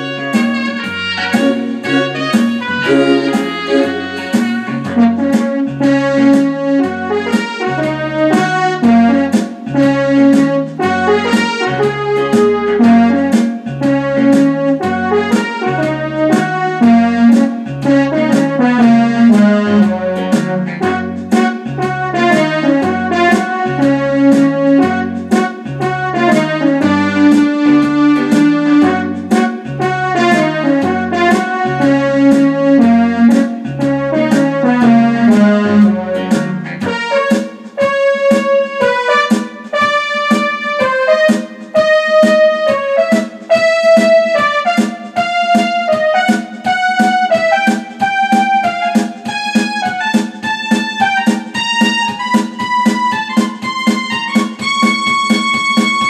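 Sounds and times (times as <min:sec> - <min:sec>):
electronic keyboard playing blues: 0:00.0 - 0:56.0.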